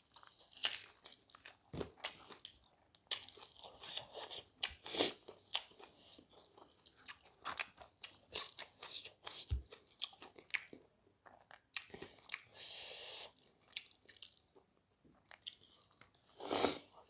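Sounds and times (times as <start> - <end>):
close chewing and crunching: 0.0 - 17.0.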